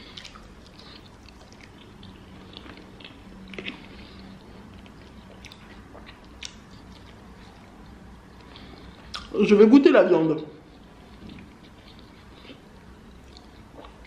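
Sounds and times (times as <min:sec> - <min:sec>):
person chewing fries: 0:00.0 - 0:09.4, 0:10.7 - 0:14.0.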